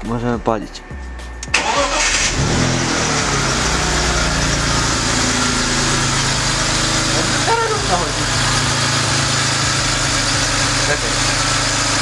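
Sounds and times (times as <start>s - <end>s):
car engine starting and idling: 1.4s - 12.0s.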